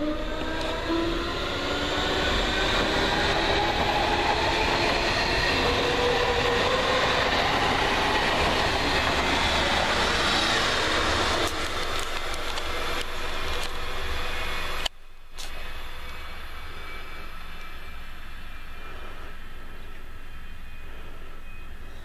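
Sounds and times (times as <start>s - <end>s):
faint gliding whine: 0.0s - 22.0s
train wheels rolling on rail: 0.0s - 22.0s.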